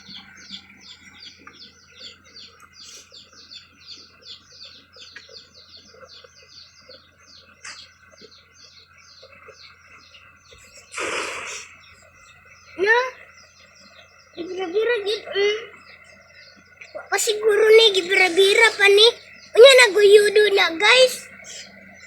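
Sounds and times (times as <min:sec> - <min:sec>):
bird chirping rapidly: 0:00.0 - 0:22.0.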